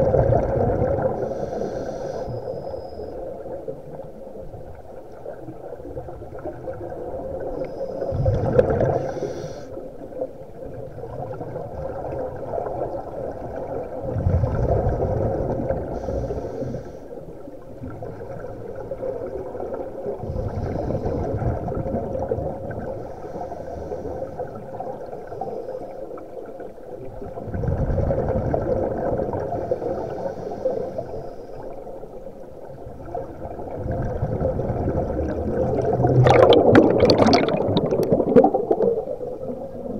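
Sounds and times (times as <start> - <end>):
underwater exhaled air bubbling: 0.0 - 39.9.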